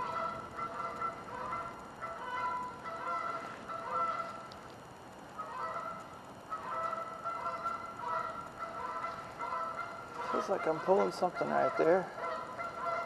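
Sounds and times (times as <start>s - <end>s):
honking bird calls: 0.0s - 4.5s, 5.4s - 13.0s.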